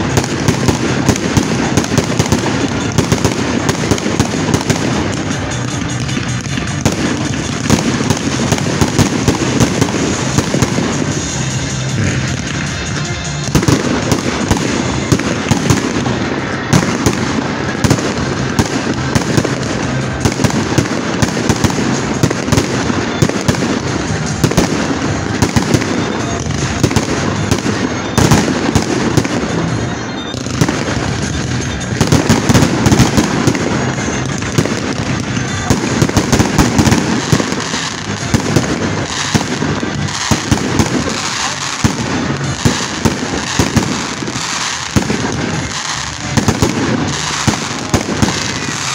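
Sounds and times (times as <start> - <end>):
fireworks cracking and banging: 0.0 - 48.9.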